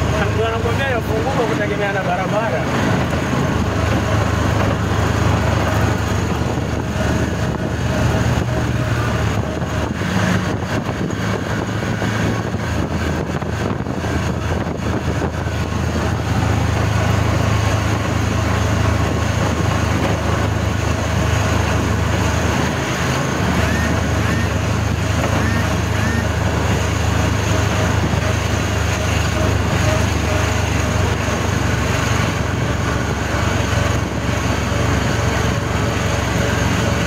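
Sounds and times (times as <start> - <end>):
road noise rushing: 0.0 - 37.0
vehicle engine hum: 0.0 - 37.0.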